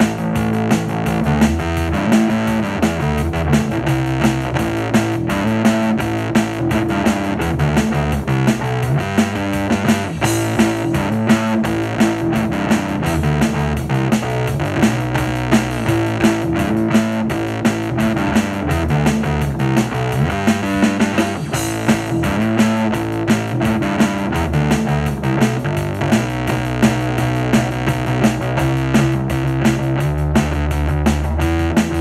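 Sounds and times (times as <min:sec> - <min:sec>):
synth bass long low notes: 0:00.0 - 0:32.0.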